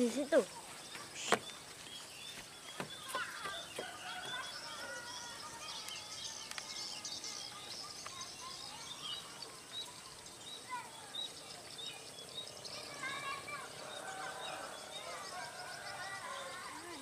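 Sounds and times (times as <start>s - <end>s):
faint outdoor background noise: 0.0s - 17.0s
small birds chirping: 0.0s - 17.0s.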